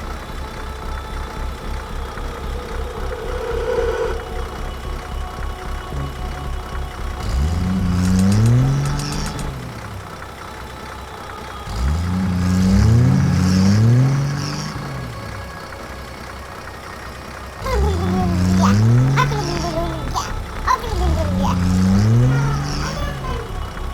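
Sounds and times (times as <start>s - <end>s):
engine revving through gears: 0.0s - 23.9s.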